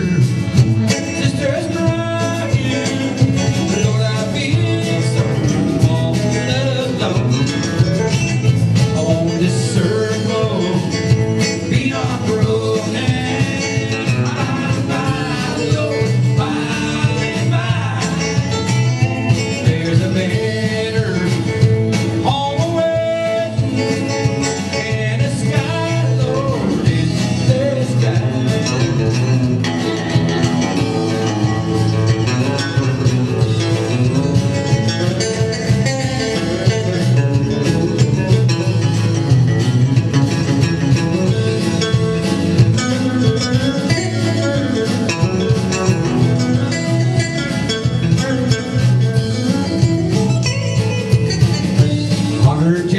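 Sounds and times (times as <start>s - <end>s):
man singing: 0.0s - 39.2s, 40.0s - 52.9s
acoustic guitar: 0.0s - 52.9s
electric bass: 0.0s - 52.9s.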